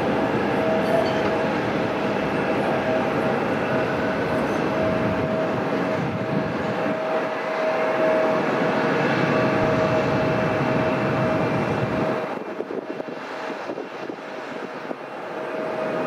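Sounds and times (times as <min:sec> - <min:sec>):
jet engine roar: 0:00.0 - 0:16.0
jet engine whine: 0:00.0 - 0:16.0.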